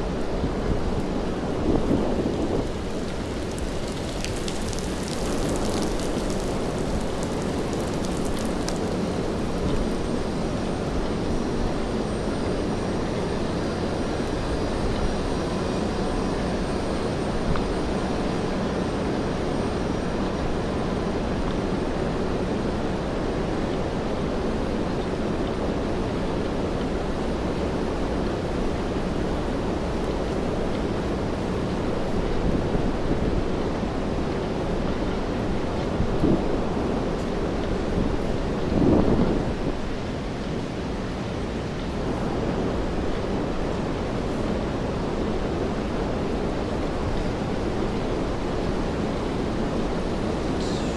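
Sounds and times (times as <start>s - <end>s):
traffic rumble: 0.0s - 40.1s, 45.8s - 50.9s
rainfall: 0.0s - 50.9s.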